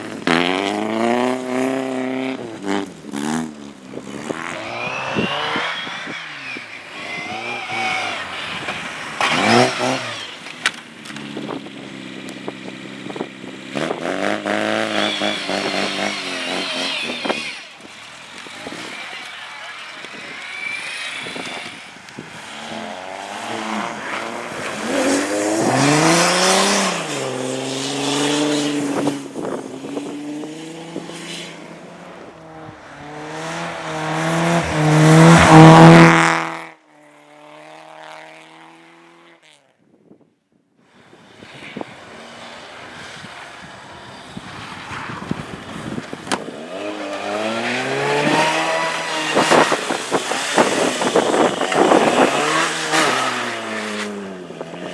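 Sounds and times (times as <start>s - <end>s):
race car engines revving: 0.0s - 39.4s, 41.0s - 54.9s.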